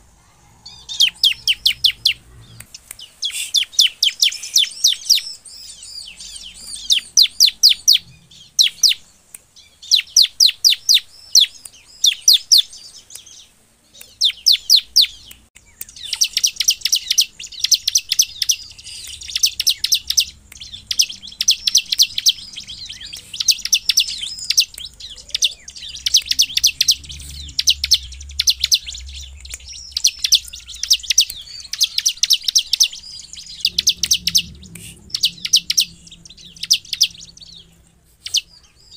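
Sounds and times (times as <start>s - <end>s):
bird singing sharp high notes: 0.6s - 13.4s, 14.1s - 38.9s.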